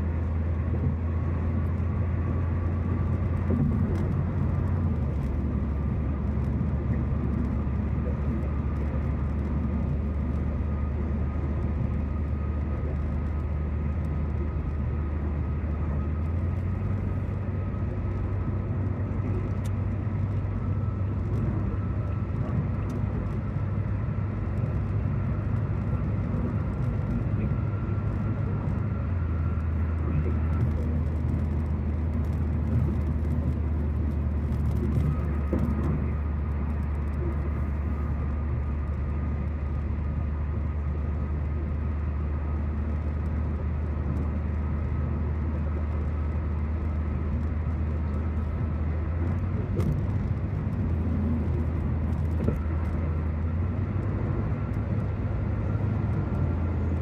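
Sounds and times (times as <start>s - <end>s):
car engine and tyre drone: 0.0s - 57.0s
faint thin whine: 0.0s - 57.0s.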